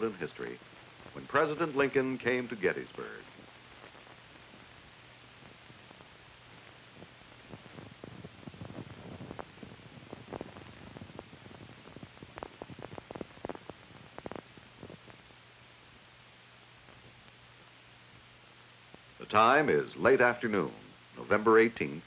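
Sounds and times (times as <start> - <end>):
faint hiss and low hum: 0.0 - 22.0.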